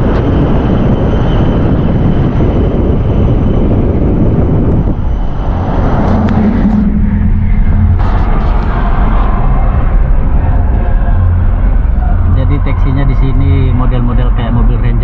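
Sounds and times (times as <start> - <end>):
pickup truck road and engine noise: 0.0 - 14.8.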